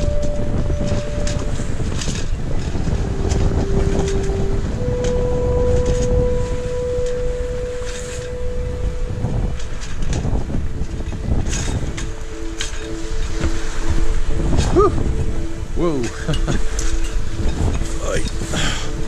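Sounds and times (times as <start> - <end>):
steady tones: 0.0 - 19.0
water rushing past hull: 0.0 - 19.0
wind buffeting microphone: 0.0 - 19.0.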